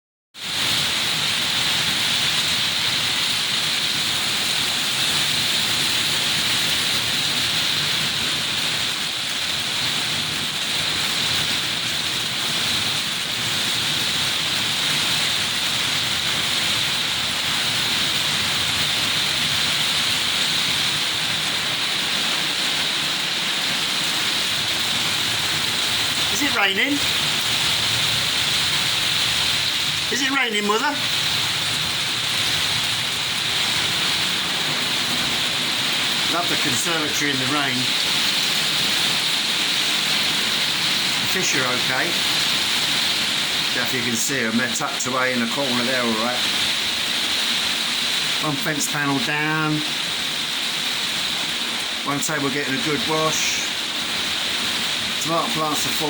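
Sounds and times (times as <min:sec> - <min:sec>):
heavy rain falling: 0:00.4 - 0:56.0.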